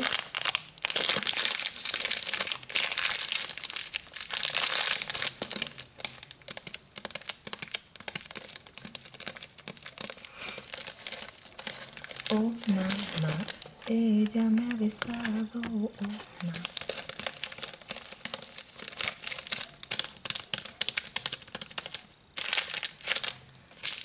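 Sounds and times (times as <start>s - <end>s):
plastic wrapper crinkling: 0.0s - 24.0s.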